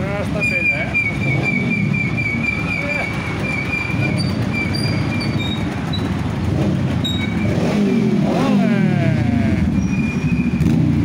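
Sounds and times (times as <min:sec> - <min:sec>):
motorcycles riding past: 0:01.0 - 0:11.0.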